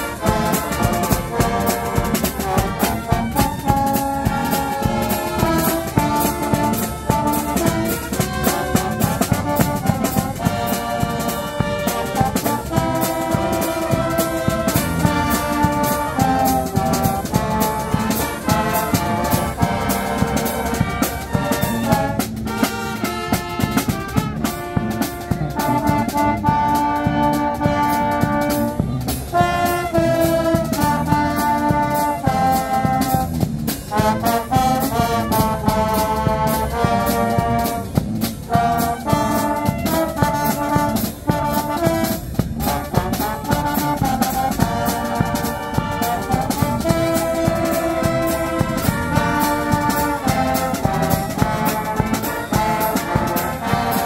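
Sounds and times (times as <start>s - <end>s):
street brass band playing: 0.0s - 54.0s.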